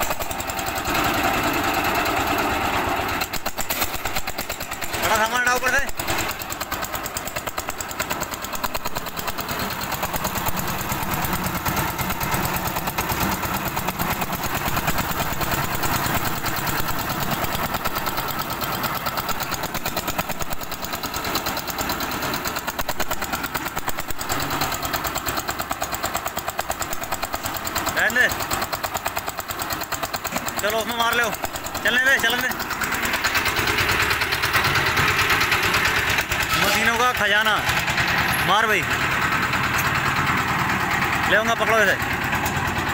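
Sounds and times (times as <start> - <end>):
small diesel engine running: 0.0 - 42.9.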